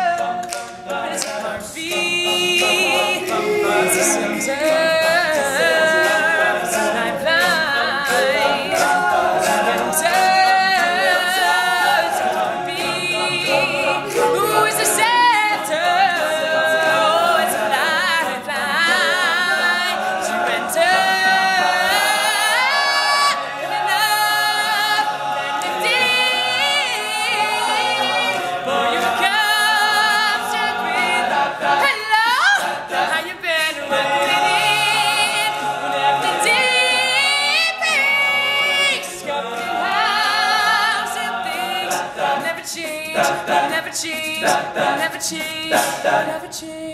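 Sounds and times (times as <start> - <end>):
lead voice singing: 0.0 - 46.9
male a cappella group singing: 0.0 - 46.9.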